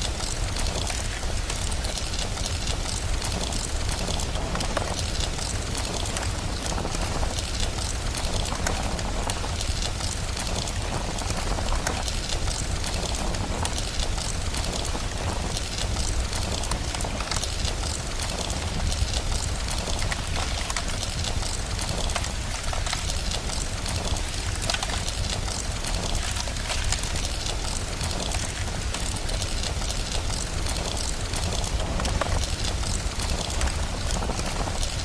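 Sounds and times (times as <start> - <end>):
rain hiss: 0.0 - 35.0
wood fire crackling: 0.0 - 35.0.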